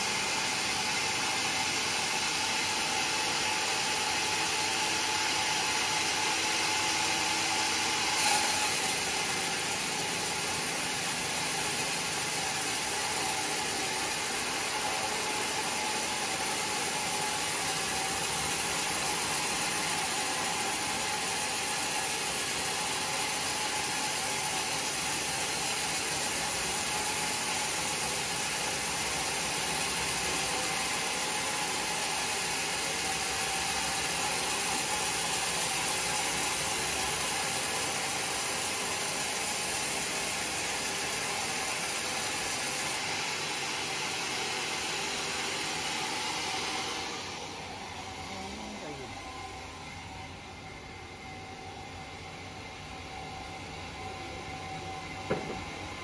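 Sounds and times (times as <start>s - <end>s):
band saw cutting log: 0.6s - 49.2s.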